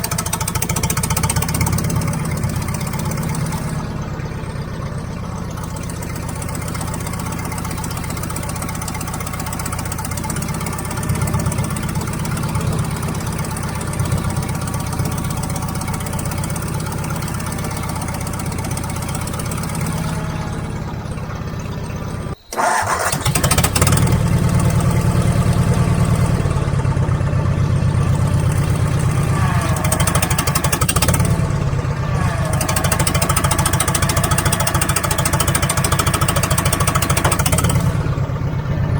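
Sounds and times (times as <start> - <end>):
heavy machine engine running: 0.0 - 38.9.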